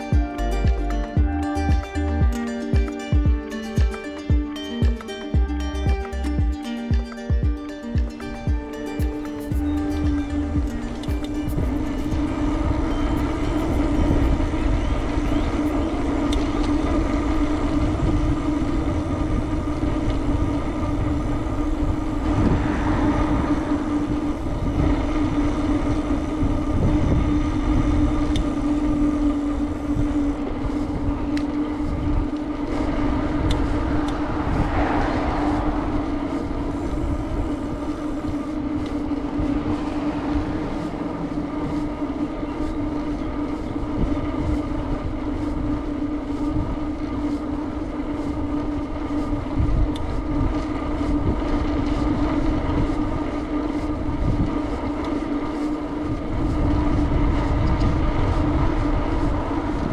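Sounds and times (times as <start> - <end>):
steady droning hum: 0.0 - 59.9
wind rumbling on microphone: 0.0 - 59.9.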